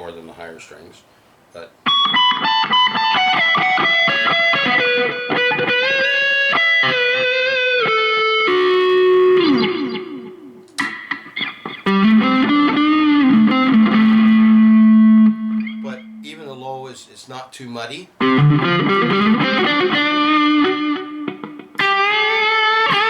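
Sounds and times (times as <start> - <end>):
overdriven electric guitar: 1.8 - 16.2, 18.2 - 23.0.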